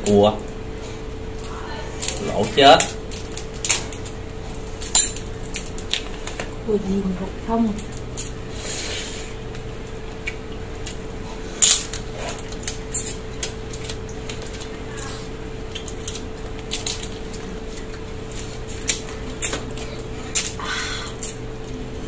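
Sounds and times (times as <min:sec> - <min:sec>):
steady hum: 0:00.0 - 0:22.0
crab shells cracking: 0:01.3 - 0:06.6, 0:07.7 - 0:08.5, 0:09.4 - 0:21.8.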